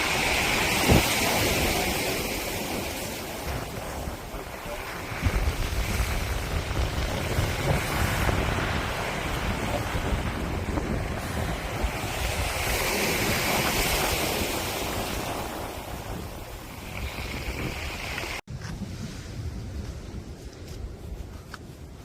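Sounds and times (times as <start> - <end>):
strong wind gusting: 0.0 - 22.0.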